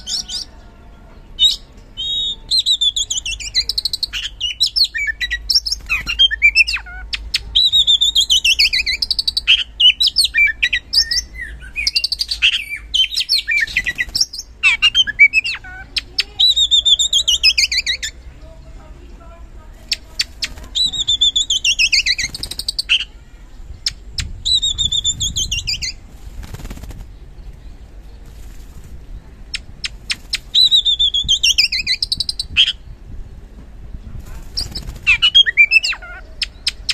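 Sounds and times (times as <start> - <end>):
songbird singing: 0.0 - 36.9.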